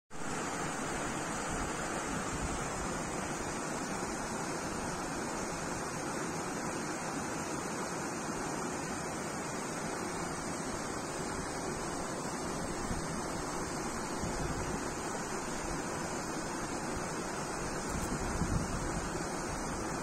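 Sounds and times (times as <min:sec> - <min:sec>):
stream rushing over rocks: 0:00.2 - 0:20.0.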